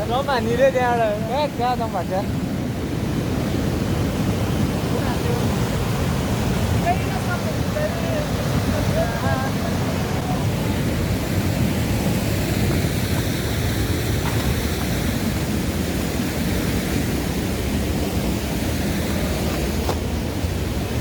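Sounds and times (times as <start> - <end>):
stream water rushing: 0.0 - 21.0
waterfall: 0.0 - 21.0.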